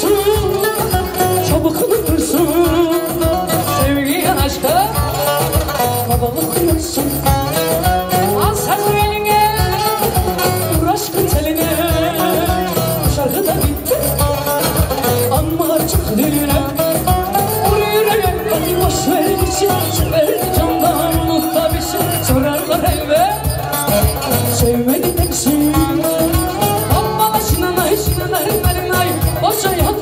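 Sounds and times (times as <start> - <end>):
live folk dance music: 0.0 - 30.0.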